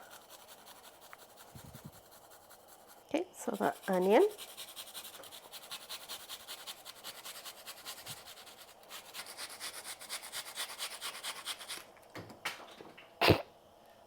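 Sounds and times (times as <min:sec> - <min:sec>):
onion grating on hand grater: 0:00.0 - 0:11.8.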